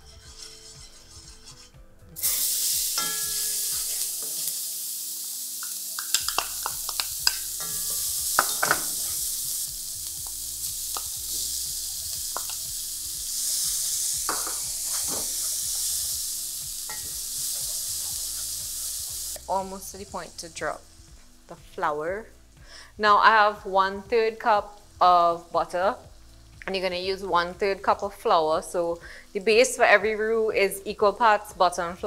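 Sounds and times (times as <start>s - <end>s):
onion sizzling in hot oil: 2.2s - 31.8s.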